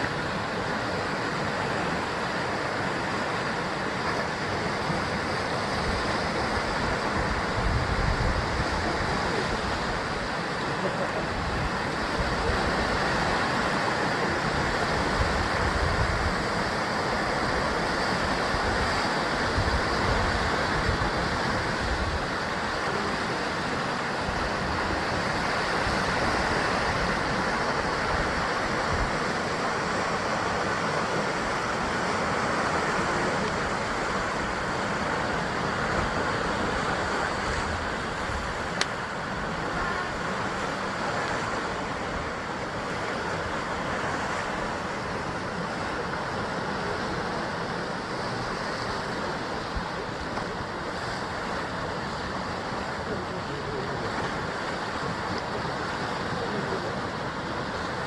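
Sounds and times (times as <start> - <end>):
surf breaking on rocks: 0.0 - 58.0.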